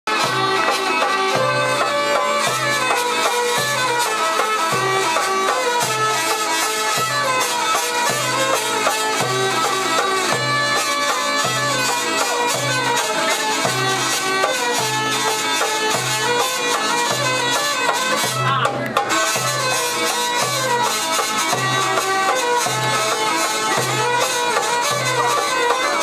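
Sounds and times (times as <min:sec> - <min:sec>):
violin: 0:00.0 - 0:26.0
hand drum: 0:00.1 - 0:26.0
hurdy-gurdy drone and melody: 0:00.1 - 0:26.0.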